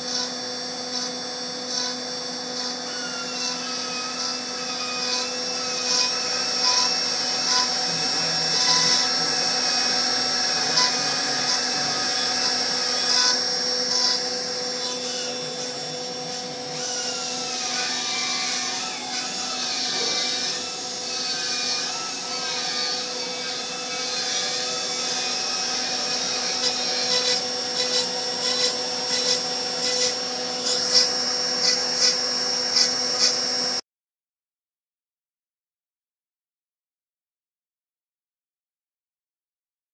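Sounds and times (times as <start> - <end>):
hiss of cutting foam: 0.0 - 33.8
router spindle whine: 0.0 - 33.8.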